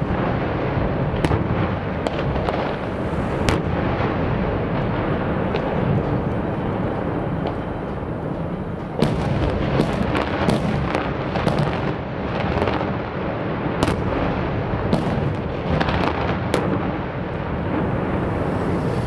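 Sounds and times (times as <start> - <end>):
continuous rumble: 0.0 - 19.0
dynamite blasts: 0.0 - 19.0.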